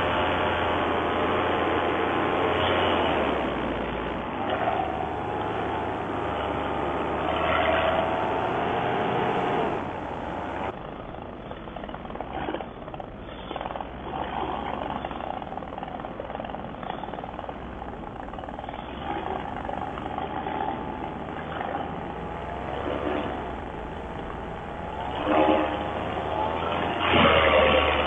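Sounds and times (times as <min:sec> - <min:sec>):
paramotor engine and propeller: 0:00.0 - 0:28.0.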